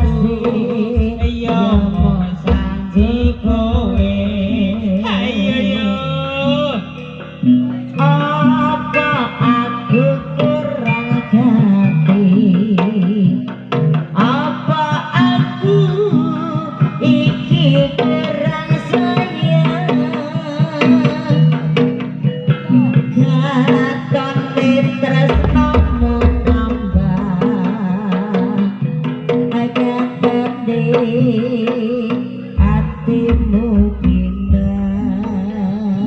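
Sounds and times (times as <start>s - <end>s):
hand drums: 0.0s - 36.0s
pitched melodic instruments: 0.0s - 36.0s.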